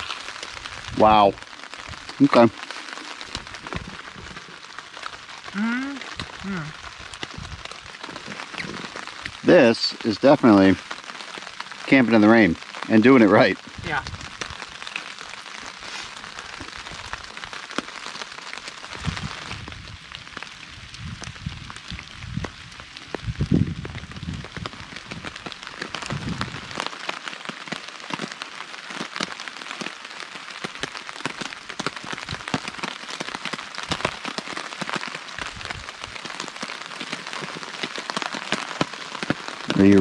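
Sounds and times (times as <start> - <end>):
rain tapping on a tarp: 0.0 - 40.0.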